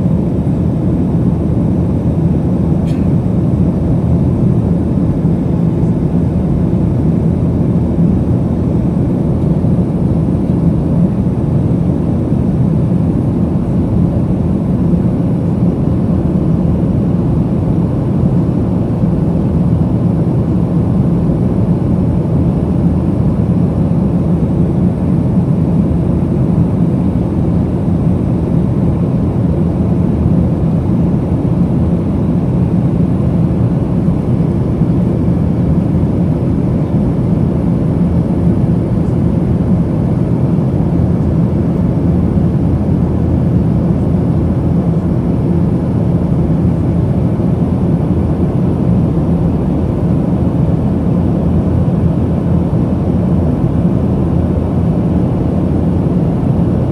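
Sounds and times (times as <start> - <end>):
airplane cabin noise: 0.0 - 56.9.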